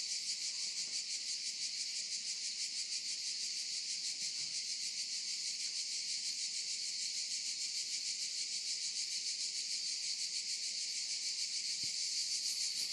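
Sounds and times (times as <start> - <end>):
insects chirring: 0.0 - 12.9.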